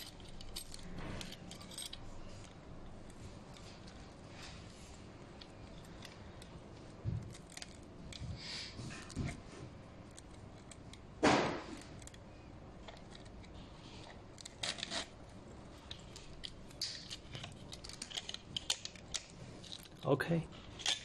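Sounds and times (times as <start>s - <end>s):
woven tape rustling and scraping: 0.0s - 21.0s.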